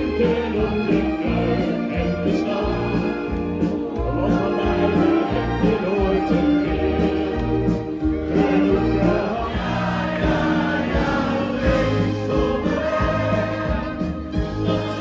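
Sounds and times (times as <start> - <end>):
choir singing with a band: 0.0 - 15.0.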